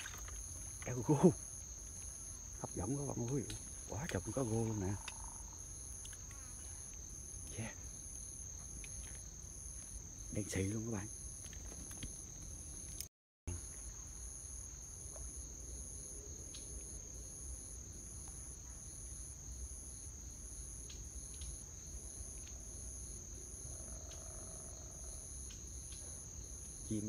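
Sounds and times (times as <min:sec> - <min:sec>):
high pulsing insect chirp: 0:00.0 - 0:27.0
insects trilling: 0:00.0 - 0:27.0.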